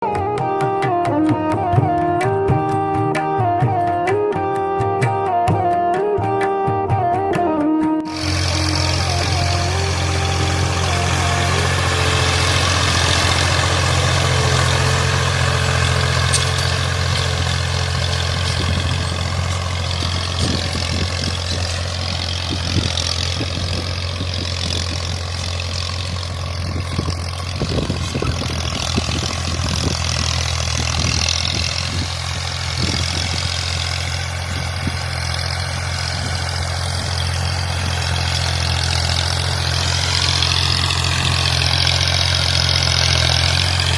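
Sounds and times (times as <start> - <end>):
tractor diesel engine running: 0.0 - 7.4, 8.0 - 43.9.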